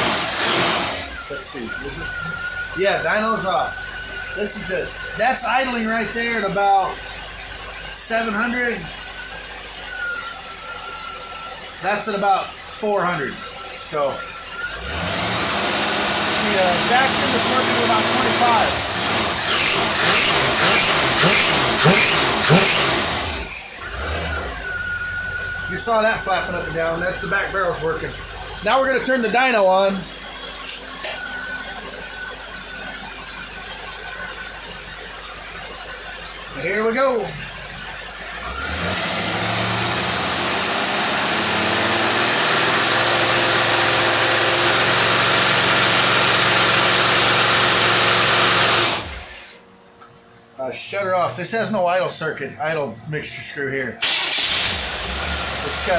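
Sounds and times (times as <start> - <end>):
engine revving and idling: 0.0 - 49.6, 54.0 - 55.9.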